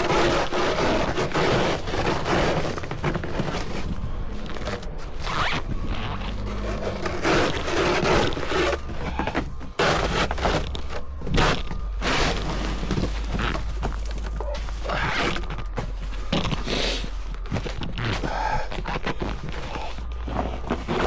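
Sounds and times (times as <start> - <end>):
snow shovel scraping snow: 0.0 - 21.0.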